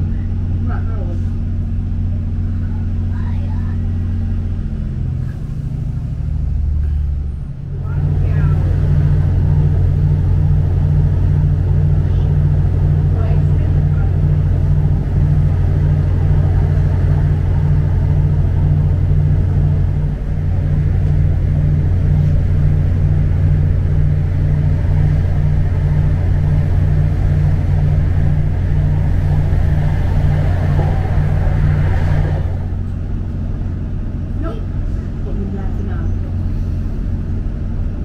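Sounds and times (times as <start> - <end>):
train interior low hum: 0.0 - 38.0.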